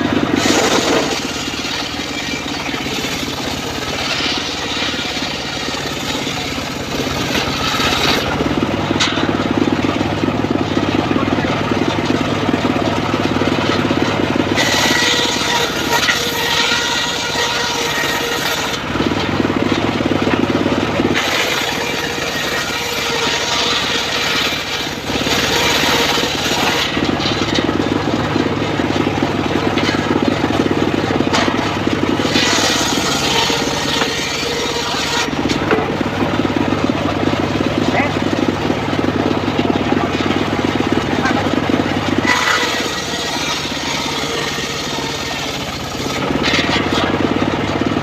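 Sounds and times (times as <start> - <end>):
circular saw blade cutting wood: 0.0 - 10.0, 12.8 - 20.4, 21.0 - 47.2
sawmill engine drone: 0.0 - 48.0.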